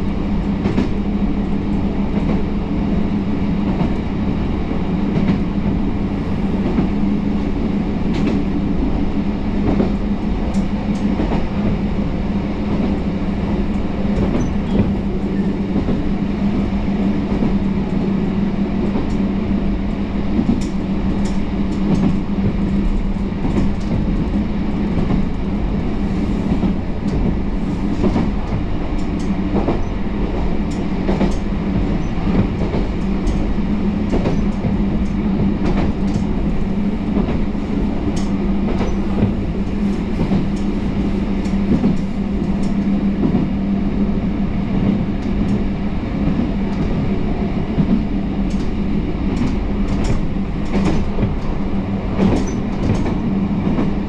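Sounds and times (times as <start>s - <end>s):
diesel railcar engine drone: 0.0s - 54.0s
train rolling rumble: 0.0s - 54.0s.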